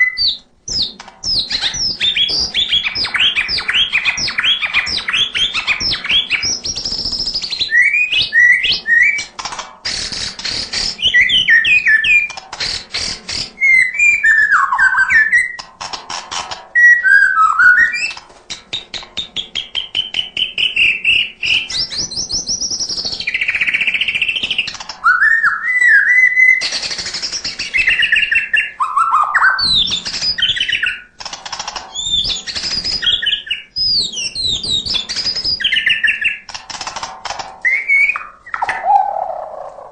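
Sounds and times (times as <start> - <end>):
bird singing whistled phrases and trills: 0.0 - 9.3, 10.0 - 15.6, 16.8 - 18.2, 18.8 - 31.1, 31.9 - 36.4, 37.6 - 39.8.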